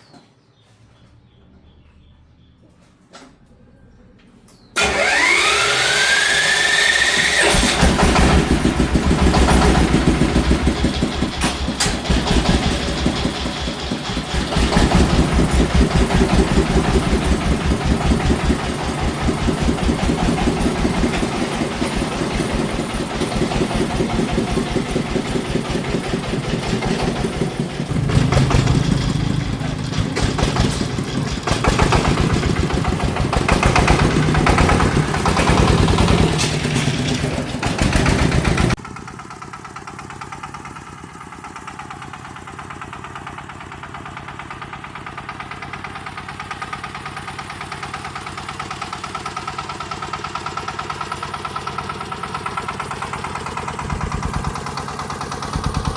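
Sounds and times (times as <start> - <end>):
vehicle engine starting and chugging: 4.8 - 55.9.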